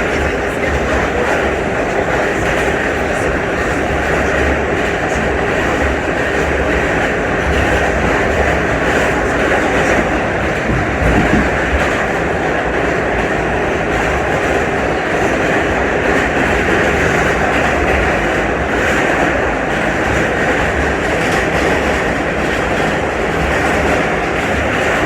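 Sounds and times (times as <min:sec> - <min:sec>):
subway wheels rumbling on rail: 0:00.0 - 0:25.0
track clickety-clack: 0:00.0 - 0:25.0.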